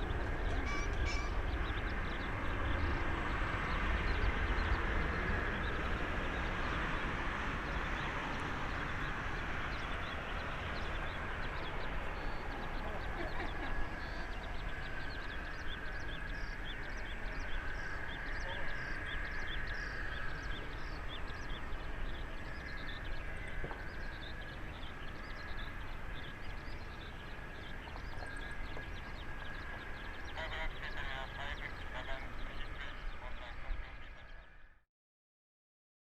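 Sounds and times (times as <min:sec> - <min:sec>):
distant jet rumble: 0:00.0 - 0:34.6.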